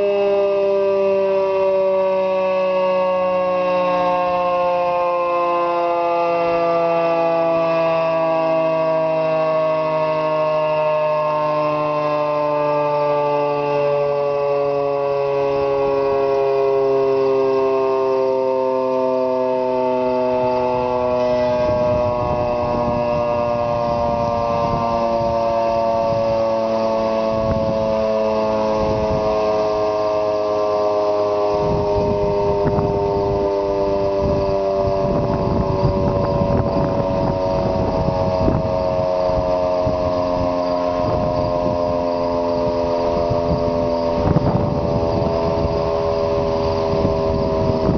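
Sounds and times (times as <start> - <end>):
three-tone siren winding down: 0.0 - 47.9.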